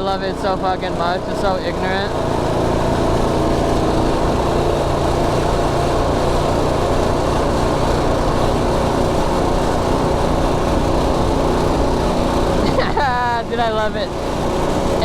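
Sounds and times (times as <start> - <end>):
engine running under load: 0.0 - 15.0.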